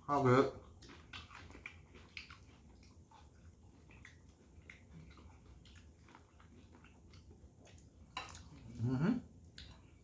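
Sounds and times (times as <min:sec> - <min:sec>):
chewing and lip smacks: 0:00.2 - 0:08.8, 0:09.4 - 0:10.0.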